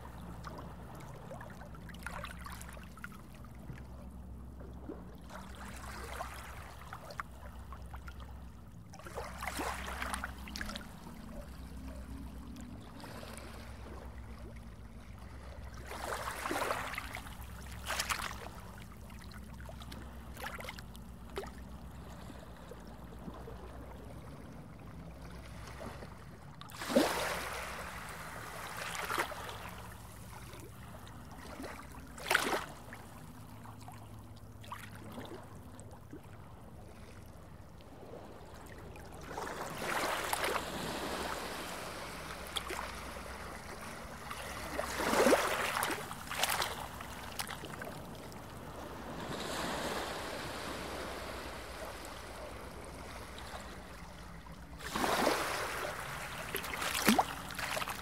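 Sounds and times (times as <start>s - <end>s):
underwater low rumble: 0.0s - 26.7s, 29.4s - 54.9s.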